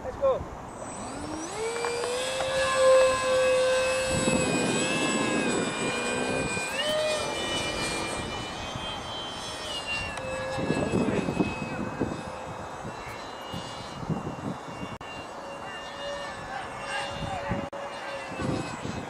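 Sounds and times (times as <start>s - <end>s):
electric motor whine: 0.6s - 19.0s.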